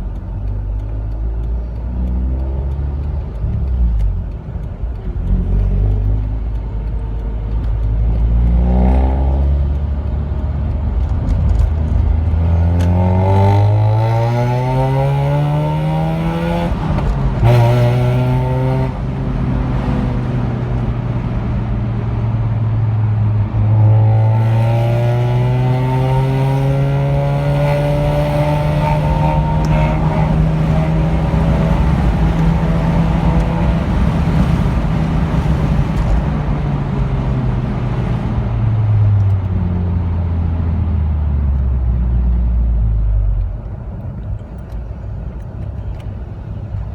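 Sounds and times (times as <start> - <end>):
rotary engine accelerating: 1.8 - 43.2.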